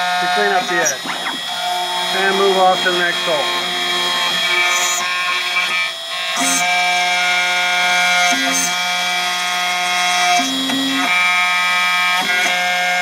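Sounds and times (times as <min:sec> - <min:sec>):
mill spindle whine: 0:00.0 - 0:13.0.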